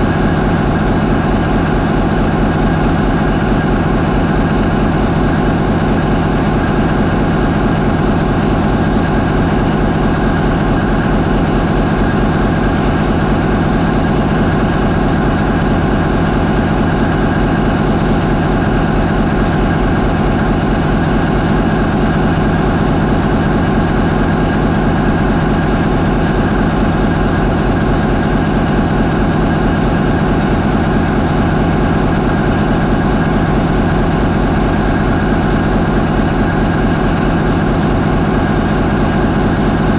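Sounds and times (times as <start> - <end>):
marine diesel engine droning: 0.0 - 39.9.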